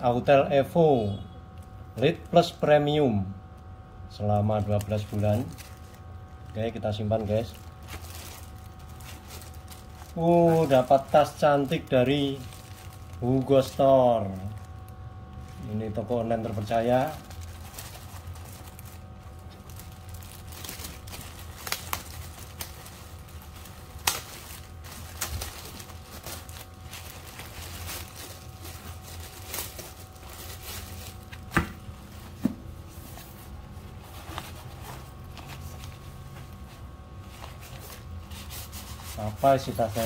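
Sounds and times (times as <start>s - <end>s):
steady low hum: 0.0s - 40.0s
plastic packaging crinkling: 4.2s - 40.0s.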